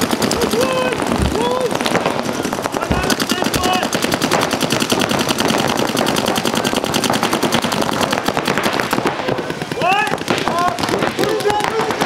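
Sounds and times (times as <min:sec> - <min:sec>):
paintball markers firing: 0:00.0 - 0:12.0.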